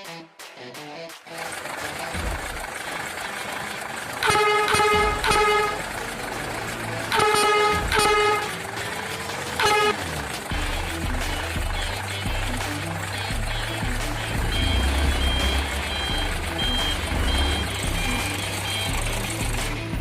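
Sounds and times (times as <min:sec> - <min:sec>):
truck engine rumble: 0:01.2 - 0:20.0
truck horn toots: 0:01.8 - 0:19.6.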